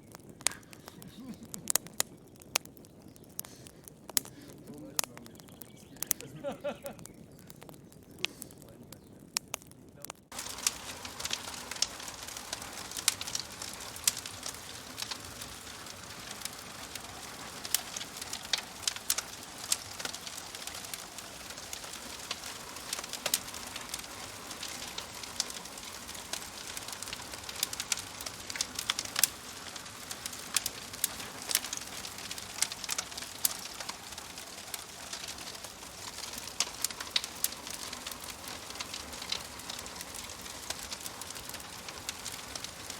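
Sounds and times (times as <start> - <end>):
fire hissing: 0.0 - 42.9
logs crackling and popping: 0.0 - 42.9.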